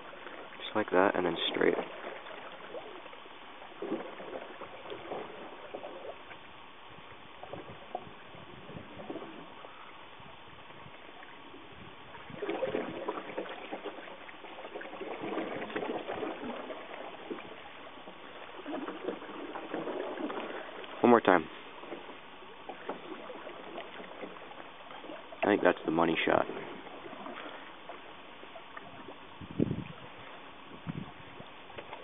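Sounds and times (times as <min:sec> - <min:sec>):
small water splashes: 0:00.0 - 0:32.0
water lapping and trickling: 0:00.0 - 0:32.0.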